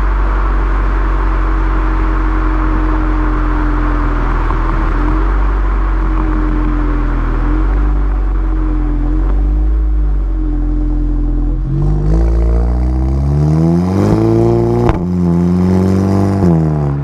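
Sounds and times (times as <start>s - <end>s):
car engine accelerating: 0.0s - 17.0s
exhaust crack: 0.0s - 17.0s.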